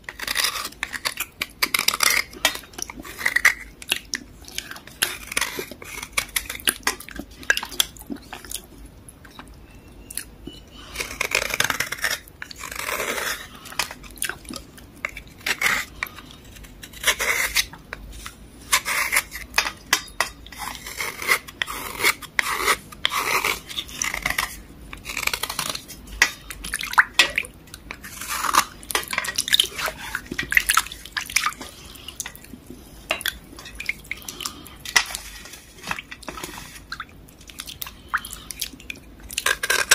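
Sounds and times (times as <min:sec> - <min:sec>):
knife scraping wet block: 0:00.1 - 0:08.5, 0:10.5 - 0:37.7, 0:39.4 - 0:39.9.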